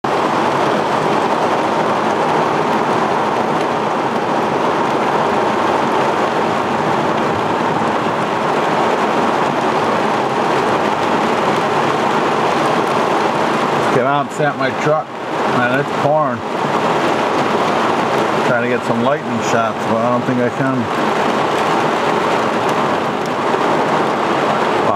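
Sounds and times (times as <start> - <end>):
heavy rain pouring down: 0.0 - 24.9.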